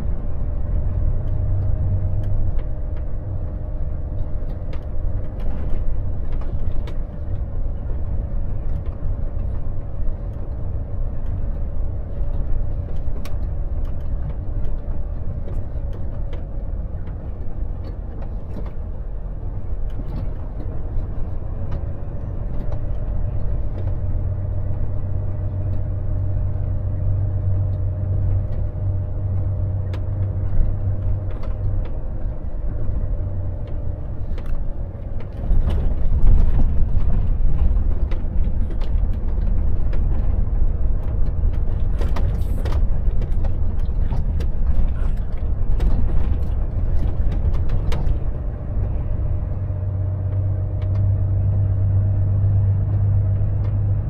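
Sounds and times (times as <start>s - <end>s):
road noise: 0.0s - 54.0s
truck engine drone: 0.0s - 54.0s.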